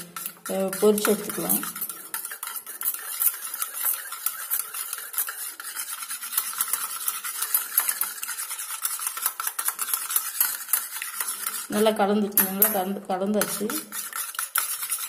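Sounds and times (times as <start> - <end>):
wire whisk scraping metal bowl: 0.0 - 15.0.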